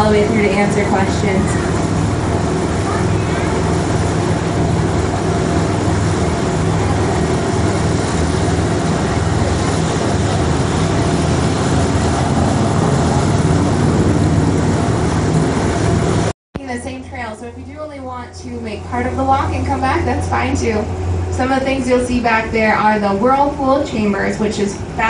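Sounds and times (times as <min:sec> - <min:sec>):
boat engine humming: 0:00.0 - 0:25.0
broad noise wash: 0:00.0 - 0:25.0.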